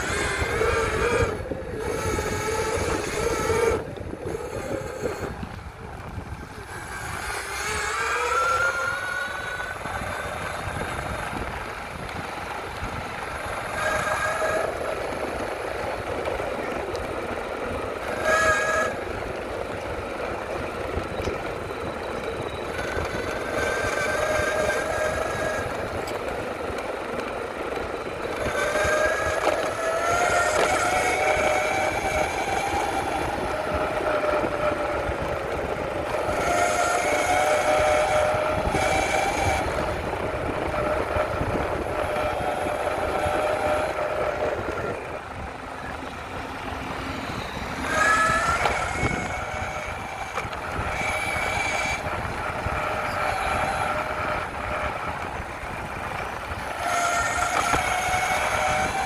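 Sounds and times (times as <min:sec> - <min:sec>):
electric motors whining: 0:00.0 - 0:59.0
wheels rumbling: 0:00.0 - 0:59.0
wind: 0:00.0 - 0:59.0.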